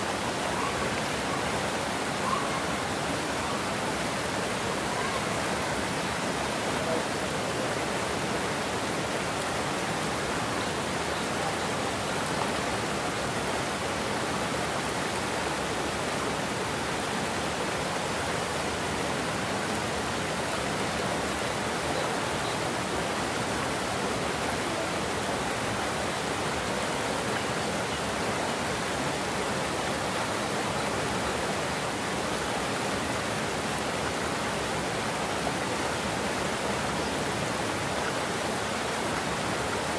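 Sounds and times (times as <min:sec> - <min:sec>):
water rushing over weir: 0:00.0 - 0:39.9.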